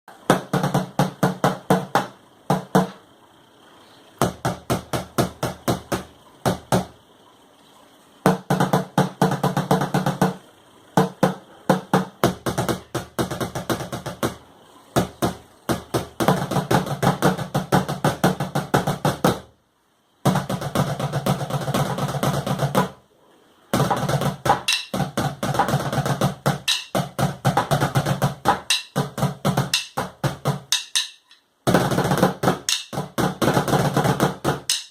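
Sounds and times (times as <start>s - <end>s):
plastic bucket drumming: 0.2s - 3.0s, 4.2s - 7.0s, 8.2s - 10.4s, 11.0s - 14.4s, 15.0s - 19.5s, 20.2s - 23.0s, 23.7s - 34.9s.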